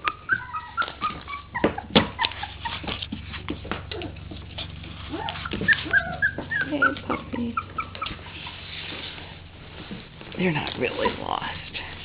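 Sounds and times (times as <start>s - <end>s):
puppies whimpering: 0.0s - 9.4s, 10.6s - 11.8s.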